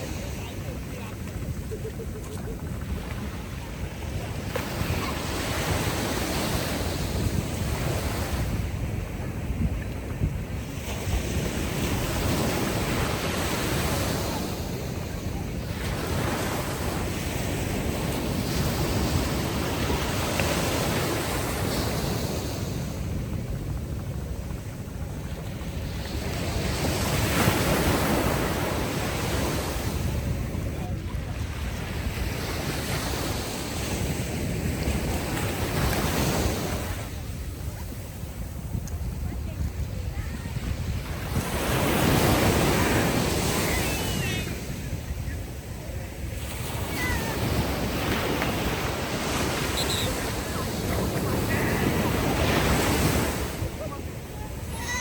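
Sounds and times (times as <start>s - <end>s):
ocean surf washing ashore: 0.0s - 55.0s
wind rumble on microphone: 0.0s - 55.0s.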